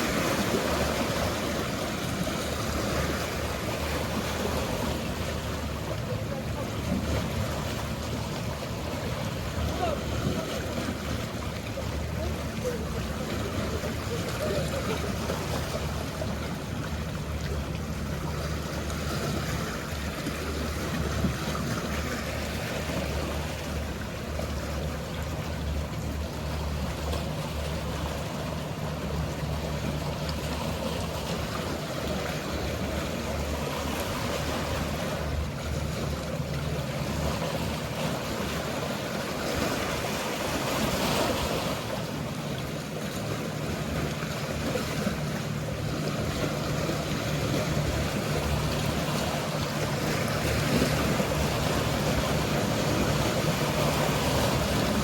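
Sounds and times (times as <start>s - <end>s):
boat engine hum: 0.0s - 55.0s
sea waves washing: 0.0s - 55.0s.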